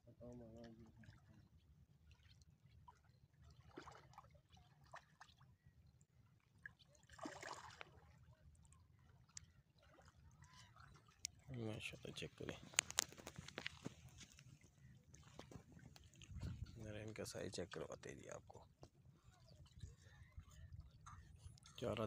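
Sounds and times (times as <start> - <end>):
water splashing and trickling: 0.0 - 22.0.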